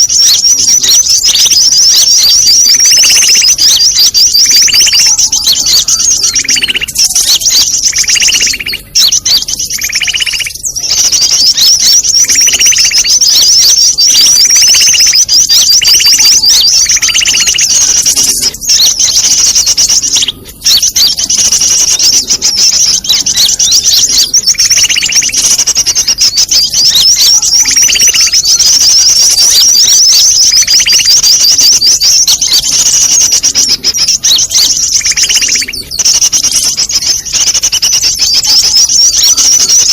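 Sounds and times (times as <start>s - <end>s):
lower bird call: 0.0s - 39.9s
small birds chattering chorus: 0.0s - 39.9s.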